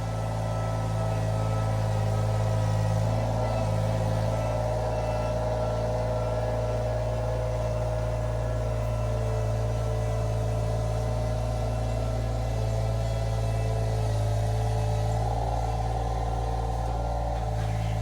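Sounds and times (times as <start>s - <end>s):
skid steer engine droning: 0.0s - 18.0s.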